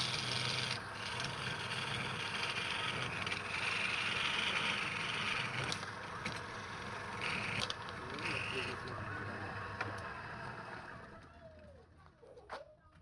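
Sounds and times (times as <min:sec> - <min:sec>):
turning tool cutting wood: 0:00.0 - 0:11.3
wood lathe humming: 0:00.0 - 0:11.3.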